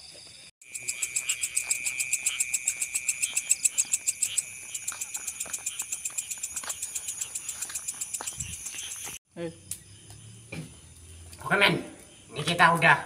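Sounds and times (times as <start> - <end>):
high steady insect trill: 0.0 - 13.0
frogs rapid pulsing calls: 0.6 - 12.6.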